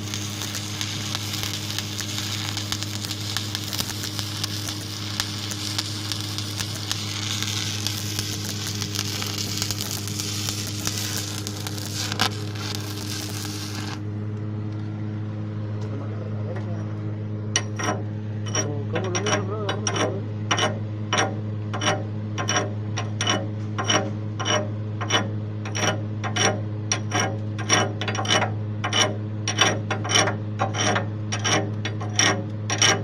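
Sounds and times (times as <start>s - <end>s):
welding machine hum: 0.0s - 33.0s.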